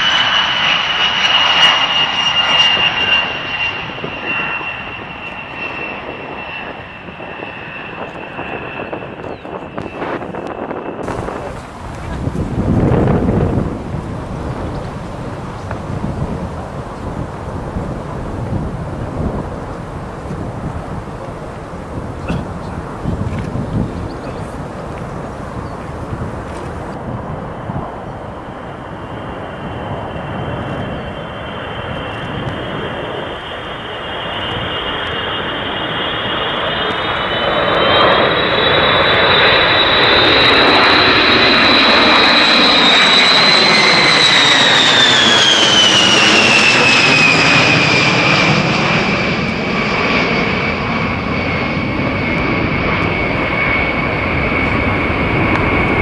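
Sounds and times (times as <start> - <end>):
jet engine noise with turbine whine: 0.0 - 56.0.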